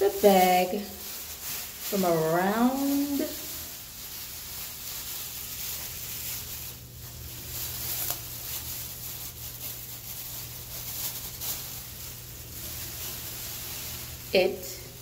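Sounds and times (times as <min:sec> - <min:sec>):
plastic trash bag crinkling: 0:00.0 - 0:15.0.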